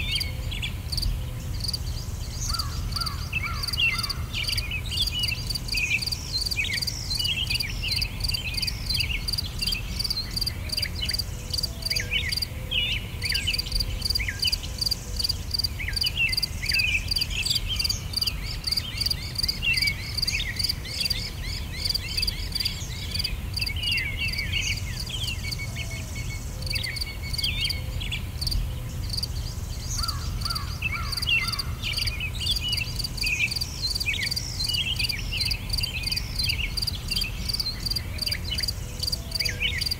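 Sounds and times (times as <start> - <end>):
constant low rumble: 0.0 - 39.8
birds chirping: 0.0 - 39.9
insects chirping: 0.0 - 39.9.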